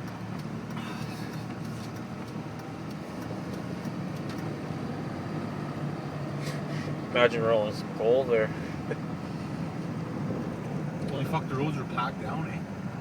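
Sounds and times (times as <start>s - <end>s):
diesel engine droning: 0.0s - 13.0s
road noise: 0.0s - 13.0s.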